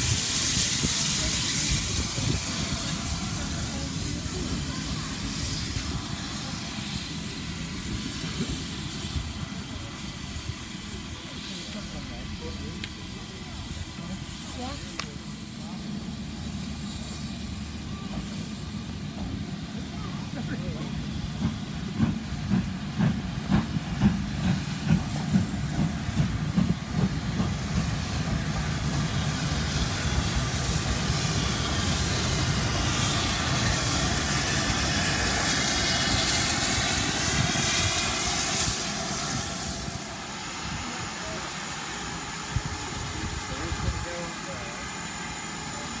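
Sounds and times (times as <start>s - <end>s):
loud hiss of steam: 0.0s - 46.0s
steam locomotive exhaust beats: 0.0s - 46.0s.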